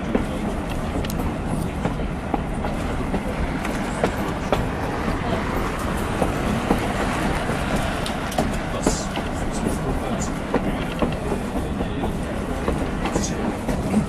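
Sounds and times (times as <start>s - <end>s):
train car rumbling on track: 0.0s - 14.0s
wheels clicking and knocking: 0.0s - 14.0s.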